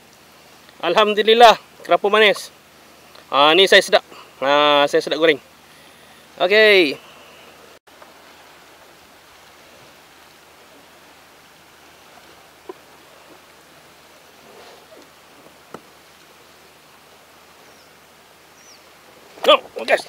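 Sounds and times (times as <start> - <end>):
water and wind hiss: 0.0 - 20.0.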